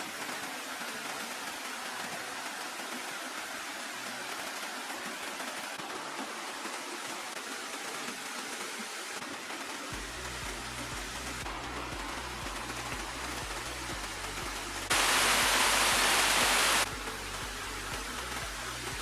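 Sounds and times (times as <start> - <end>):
steady water hiss: 0.0 - 19.0.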